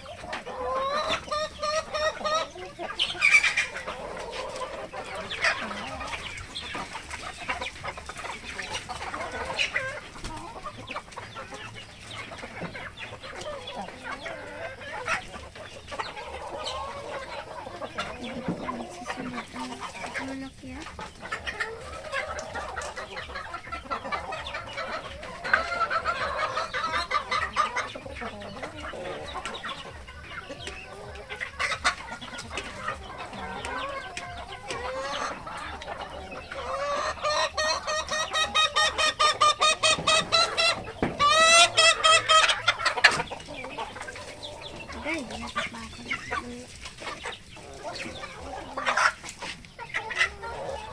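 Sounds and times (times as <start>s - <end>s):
chickens clucking and calling: 0.0s - 50.9s.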